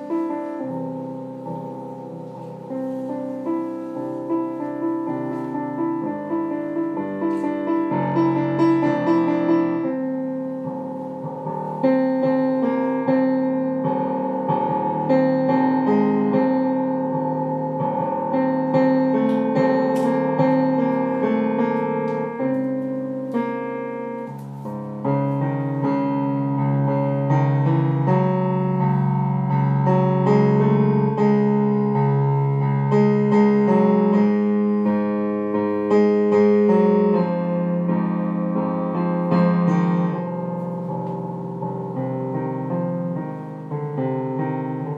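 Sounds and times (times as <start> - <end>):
piano music: 0.0 - 44.9.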